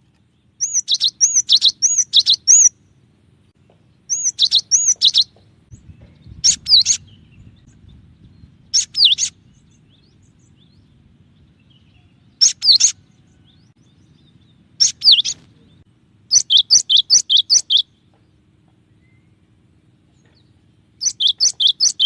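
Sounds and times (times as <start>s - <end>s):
faint low rumble: 0.0s - 21.8s.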